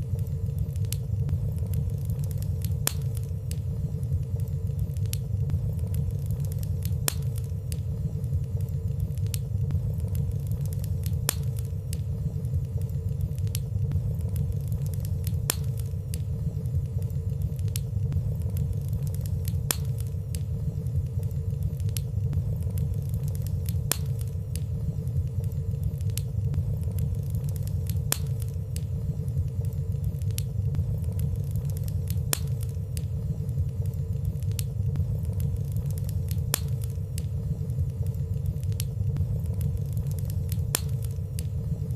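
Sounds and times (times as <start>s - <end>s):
fire crackling: 0.0s - 41.9s
fire rumbling: 0.0s - 41.9s.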